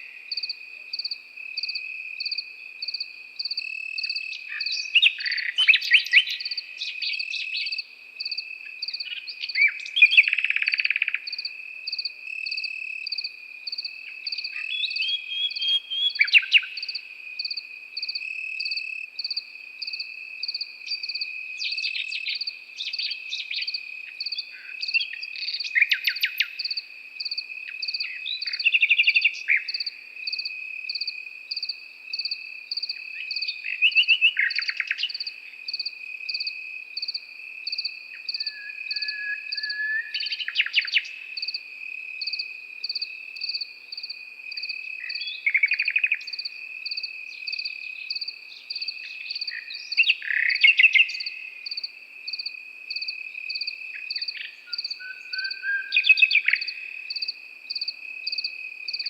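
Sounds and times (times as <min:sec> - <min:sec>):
cricket chirping: 0:00.0 - 0:59.0
cricket trilling: 0:00.0 - 0:59.0
nightingale singing: 0:00.0 - 0:59.0.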